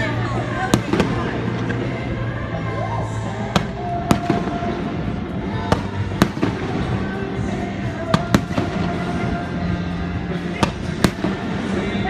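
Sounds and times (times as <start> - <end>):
music playing: 0.0 - 12.0
fireworks bangs: 0.6 - 2.1, 3.4 - 12.0.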